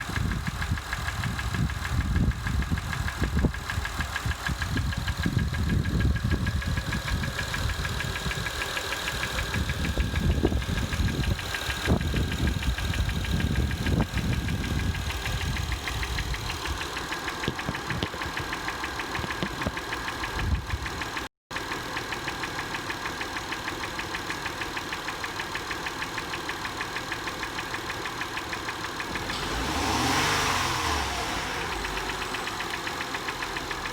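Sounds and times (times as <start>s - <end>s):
car engine idling with knock: 0.0s - 33.9s.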